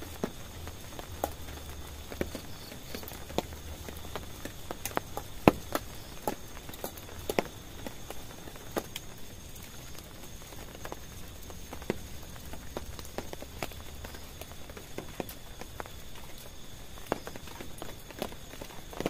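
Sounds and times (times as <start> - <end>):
faint steady hiss: 0.0 - 19.0
raindrops tapping on a tent: 0.0 - 19.0.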